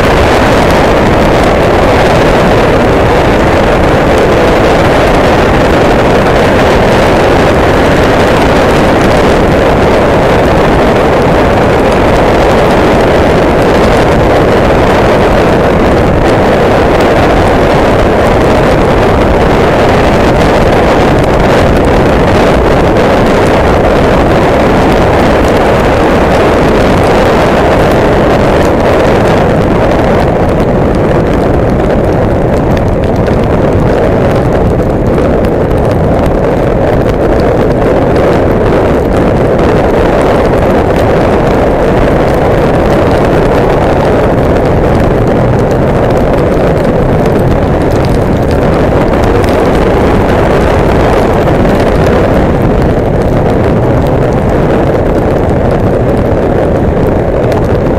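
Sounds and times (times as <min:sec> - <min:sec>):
motorcycle running: 0:00.0 - 0:57.9
wind buffeting microphone: 0:00.0 - 0:57.9.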